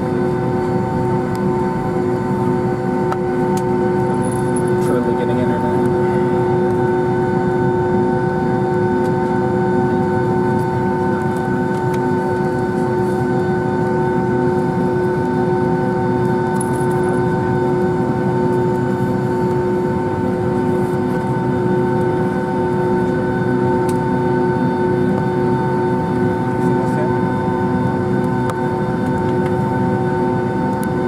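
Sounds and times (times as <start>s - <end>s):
jet engine rumble in cabin: 0.0s - 31.0s
steady engine whining tones: 0.0s - 31.0s.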